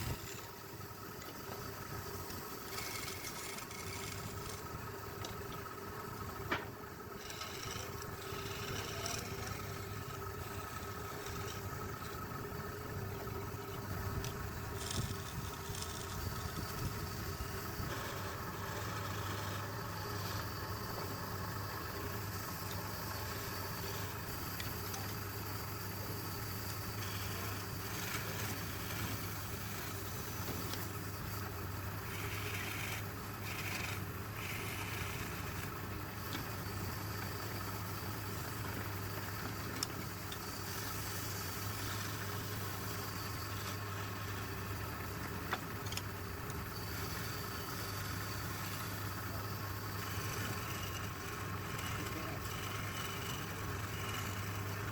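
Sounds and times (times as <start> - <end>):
lathe motor humming: 0.0 - 54.9.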